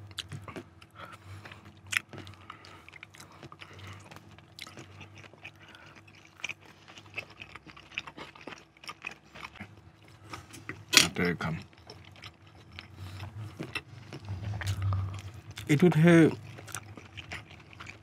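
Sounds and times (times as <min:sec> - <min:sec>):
chewing with soft crunches: 0:00.0 - 0:18.0.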